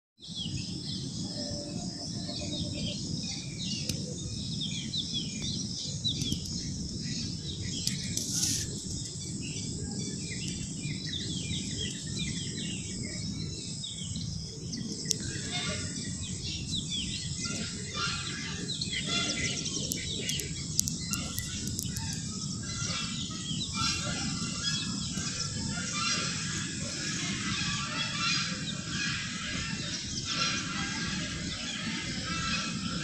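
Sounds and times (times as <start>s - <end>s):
small birds chirping: 0.2s - 33.0s
steady low rumble: 0.3s - 33.0s.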